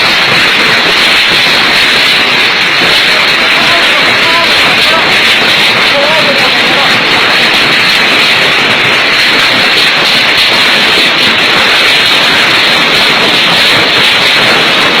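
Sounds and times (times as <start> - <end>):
hailstones pelting down: 0.0 - 15.0
heavy rain: 0.0 - 15.0.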